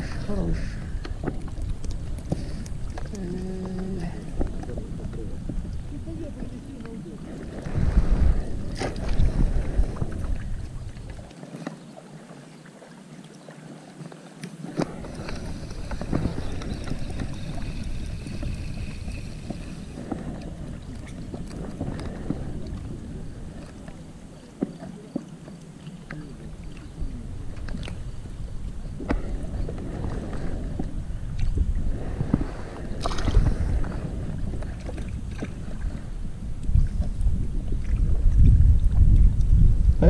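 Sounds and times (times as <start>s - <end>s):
wind buffeting microphone: 0.0s - 11.3s, 14.6s - 24.8s, 26.1s - 40.0s.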